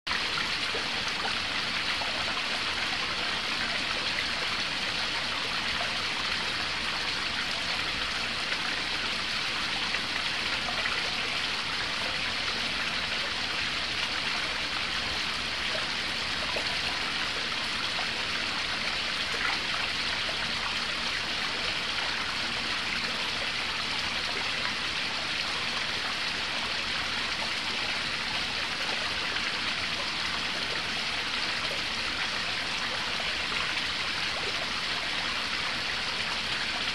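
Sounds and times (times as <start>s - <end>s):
waterfall splashing into a pond: 0.1s - 36.9s.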